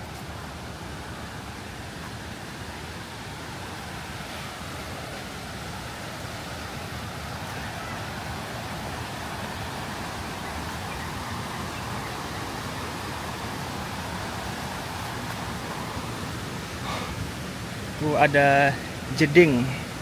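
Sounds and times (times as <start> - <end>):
fast-flowing river water rushing: 0.0 - 20.0.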